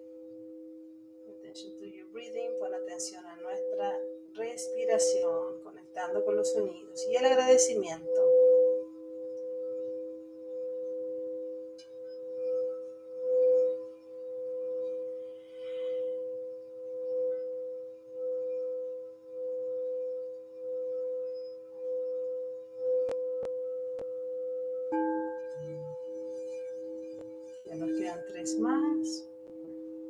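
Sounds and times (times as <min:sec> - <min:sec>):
crystal singing bowls: 0:00.0 - 0:30.0.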